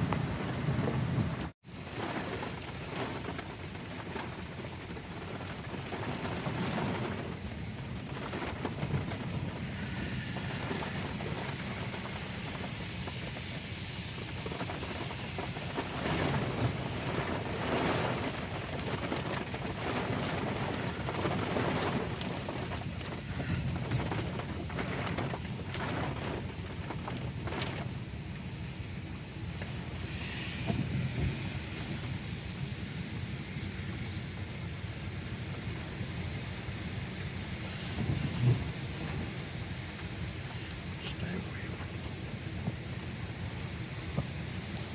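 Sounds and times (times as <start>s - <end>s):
heavy rain: 0.0s - 44.9s
strong gusting wind: 0.0s - 44.9s.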